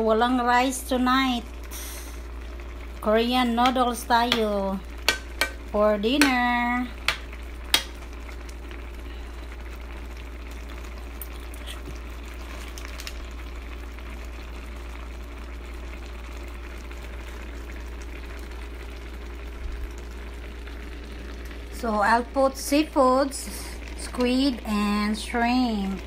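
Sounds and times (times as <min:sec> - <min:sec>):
broth simmering with steady hiss: 0:00.0 - 0:26.0.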